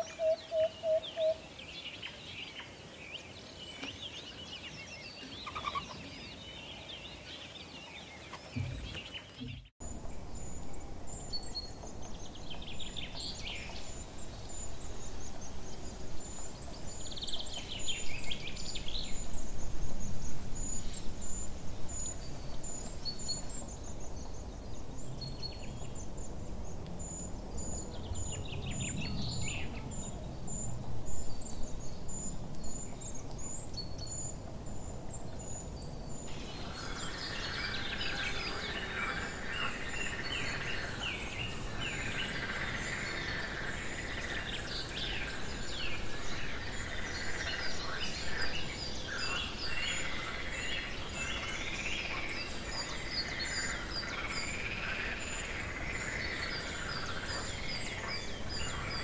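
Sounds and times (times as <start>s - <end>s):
birds chirping and calling: 0.0s - 59.0s.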